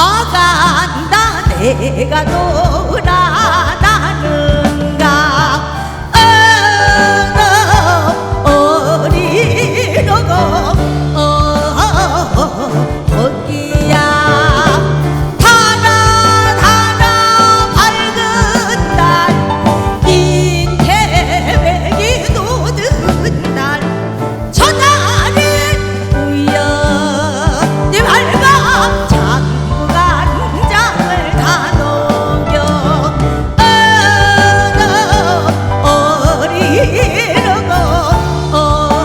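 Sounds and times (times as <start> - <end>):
folk singing with vibrato: 0.0 - 39.0
instrumental backing with bass: 0.0 - 39.0.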